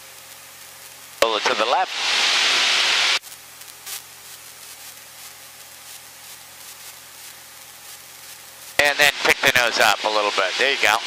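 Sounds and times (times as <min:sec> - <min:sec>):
intercom microphone hiss: 0:01.1 - 0:11.0.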